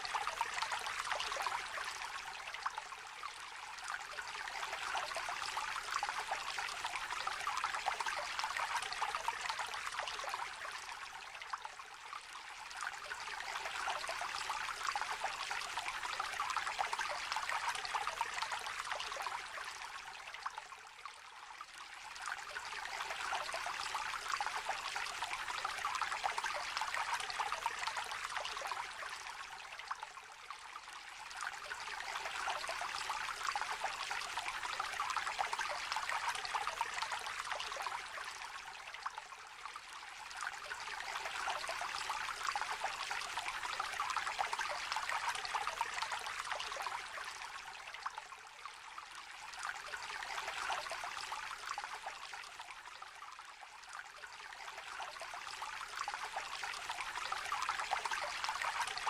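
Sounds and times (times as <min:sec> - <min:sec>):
small river babbling: 0:00.0 - 0:59.0.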